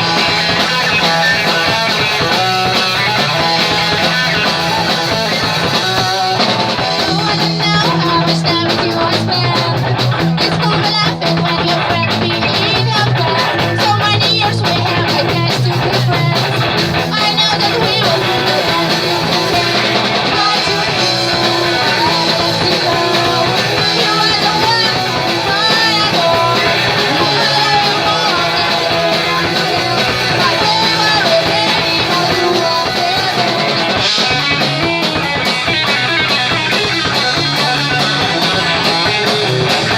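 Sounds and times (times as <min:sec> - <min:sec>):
bass: 0:00.0 - 0:39.9
distorted electric guitars: 0:00.0 - 0:39.9
drum kit: 0:00.0 - 0:39.9
person singing: 0:00.0 - 0:39.9.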